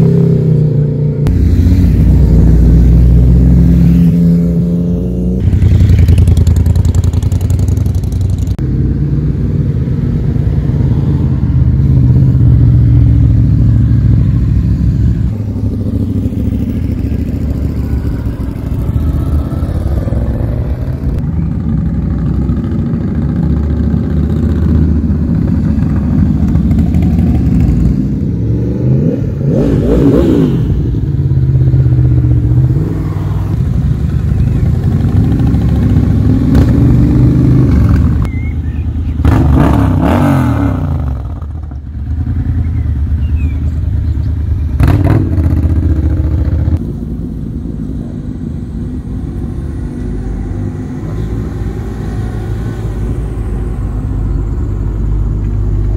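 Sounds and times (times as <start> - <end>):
motorcycles riding past: 0.0 - 55.9.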